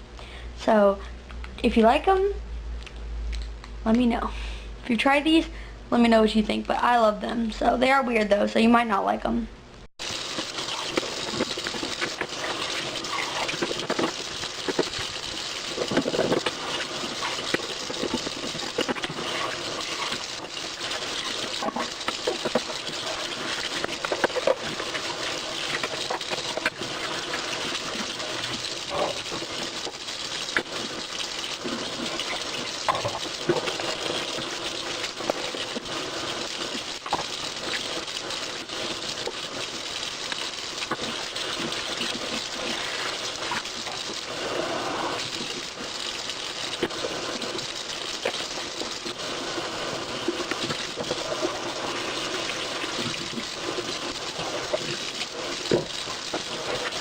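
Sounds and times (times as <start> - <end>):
water running from a tap: 10.0 - 57.0.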